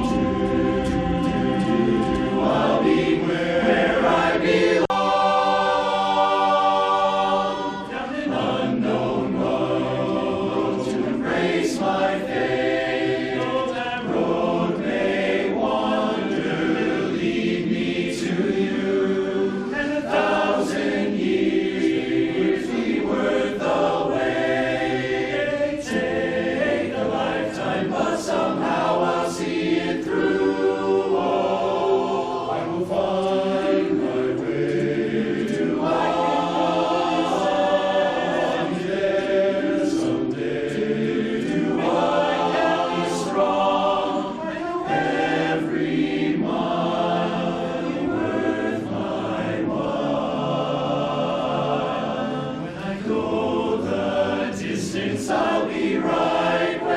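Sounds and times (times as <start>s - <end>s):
men's chorus singing a cappella: 0.0s - 56.9s.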